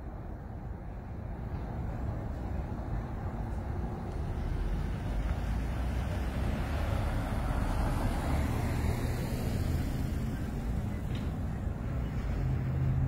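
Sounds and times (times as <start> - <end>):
steady traffic noise: 0.0 - 13.0.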